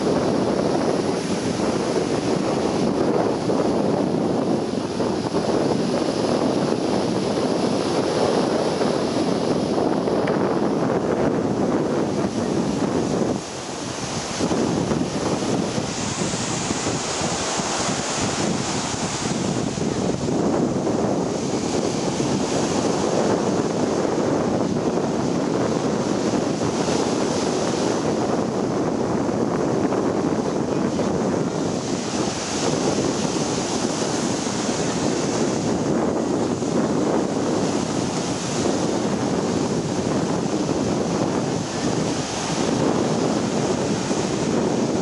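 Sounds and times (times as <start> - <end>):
ocean surf breaking: 0.0 - 45.0
wind buffeting microphone: 0.0 - 45.0.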